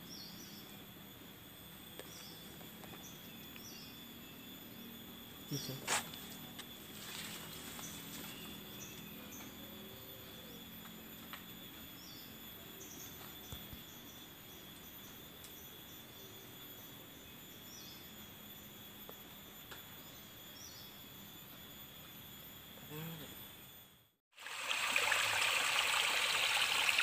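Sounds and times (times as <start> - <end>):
insect drone: 0.0 - 27.0.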